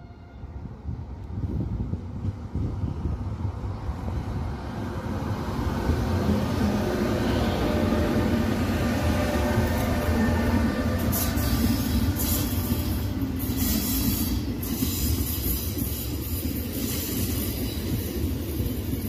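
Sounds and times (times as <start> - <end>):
electric locomotives passing: 0.0 - 19.0
rail cars rolling past: 0.0 - 19.0.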